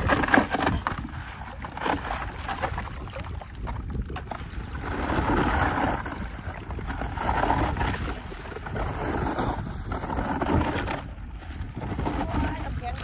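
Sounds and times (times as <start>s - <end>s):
water sloshing and splashing: 0.0s - 13.0s
wind rumble on microphone: 0.0s - 13.0s.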